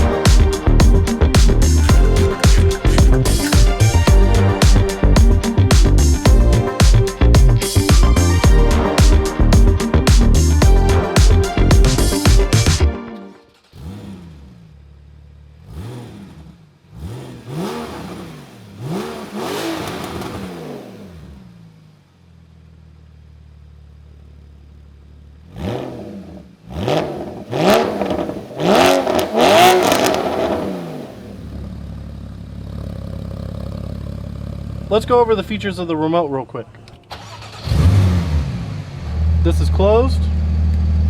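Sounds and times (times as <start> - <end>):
sports car engine revving: 0.0 - 12.8, 13.6 - 31.9, 37.4 - 41.0.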